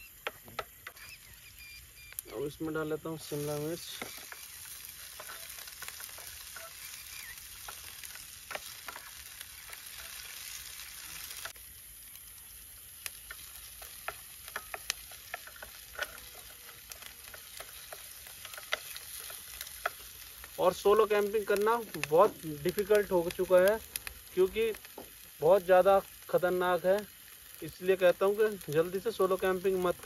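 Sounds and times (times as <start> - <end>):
vegetables sizzling in oil: 0.0 - 30.0.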